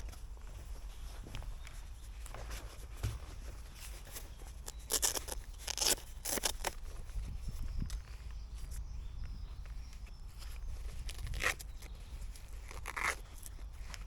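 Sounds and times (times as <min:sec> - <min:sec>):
gear rustling and crinkling: 0:00.0 - 0:14.0.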